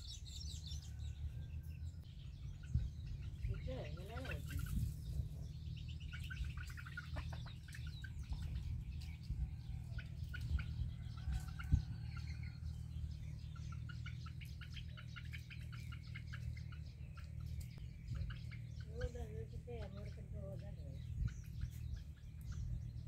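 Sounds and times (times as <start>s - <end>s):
low rumble: 0.0s - 23.0s
hens alarm clucking: 2.5s - 22.9s.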